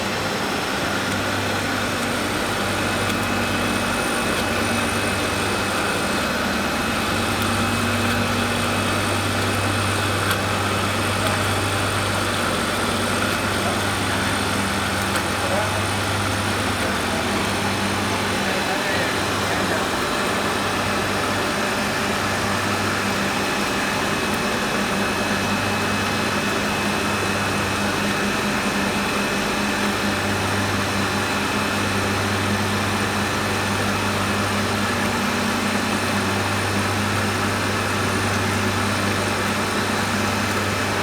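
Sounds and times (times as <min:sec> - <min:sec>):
electric motor humming and whirring: 0:00.0 - 0:41.0.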